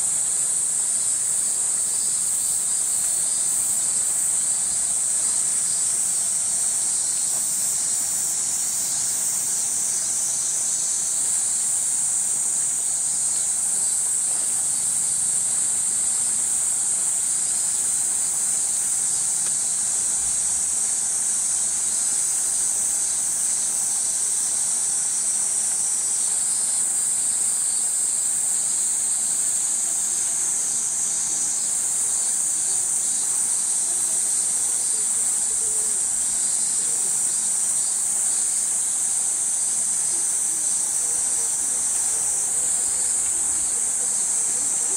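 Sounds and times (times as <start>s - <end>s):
cicada chorus drone: 0.0s - 44.9s.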